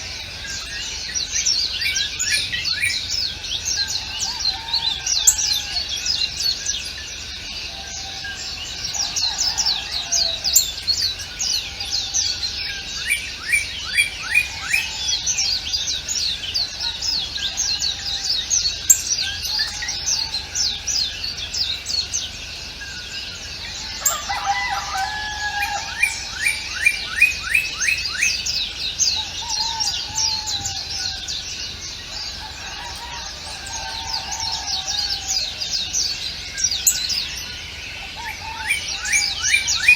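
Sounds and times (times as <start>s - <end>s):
softer lower bird calls: 0.0s - 39.9s
songbirds chirping chorus: 0.0s - 39.9s.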